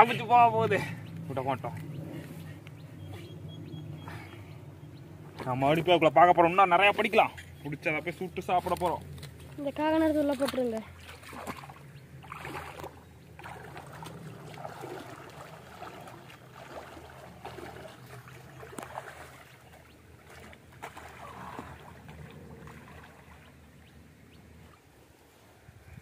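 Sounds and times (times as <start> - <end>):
water sloshing from wading: 0.0 - 25.2.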